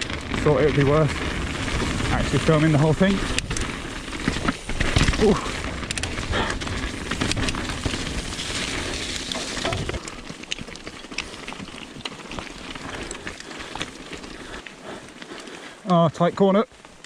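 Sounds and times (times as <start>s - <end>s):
bike tyres crunching over gravel: 0.0s - 17.0s
clicks of stones and bike parts: 0.0s - 17.0s.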